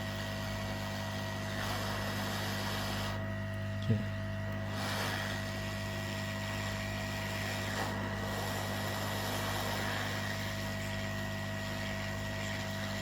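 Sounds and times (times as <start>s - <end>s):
electrical hum: 0.0s - 13.0s
hot-air station hissing: 0.0s - 13.0s.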